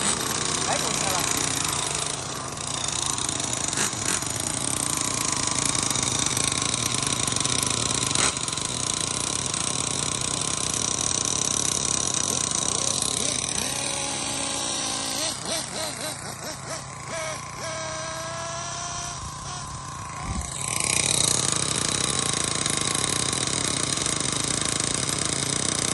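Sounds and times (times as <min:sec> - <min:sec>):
rc car engine buzzing: 0:00.0 - 0:25.9.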